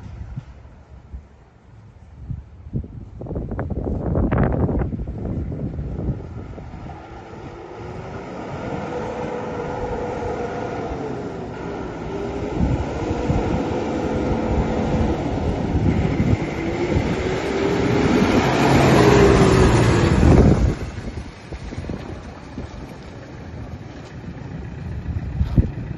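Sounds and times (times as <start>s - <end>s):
whine over engine: 2.9s - 25.9s
tractor diesel engine passing: 3.8s - 25.9s.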